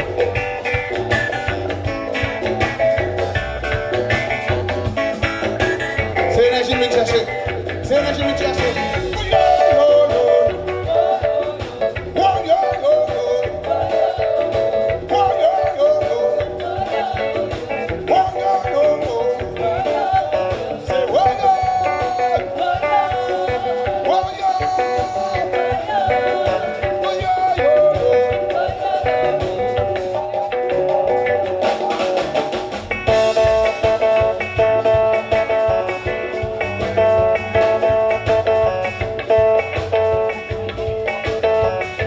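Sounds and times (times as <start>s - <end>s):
live instrumental band music: 0.0s - 42.0s.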